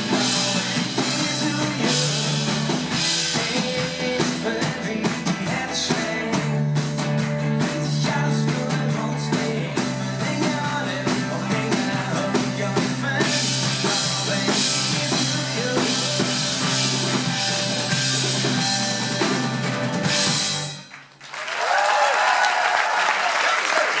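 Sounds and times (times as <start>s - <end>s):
live pop-rock band playing: 0.0s - 20.9s.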